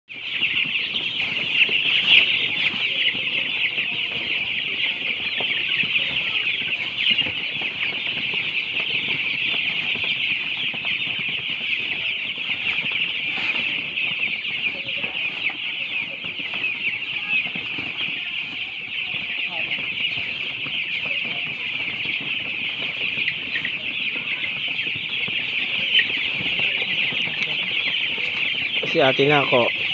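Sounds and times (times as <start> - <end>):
chicks peeping: 0.1 - 29.9.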